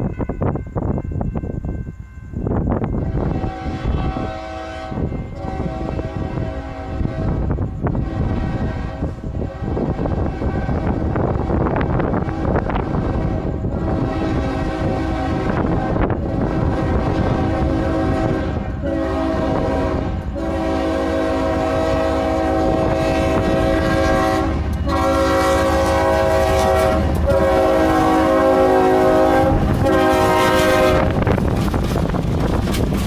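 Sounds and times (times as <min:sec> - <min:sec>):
diesel locomotive rumble: 0:02.4 - 0:33.0
locomotive air horn blasts: 0:03.0 - 0:31.4.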